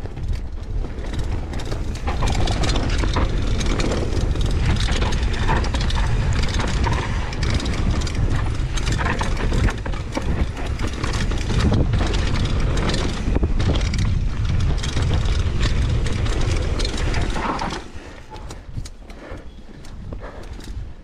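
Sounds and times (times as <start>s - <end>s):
bike clattering and rattling: 0.0s - 21.0s
bike tyres on dirt: 0.0s - 21.0s
wind rumble on microphone: 0.0s - 21.0s.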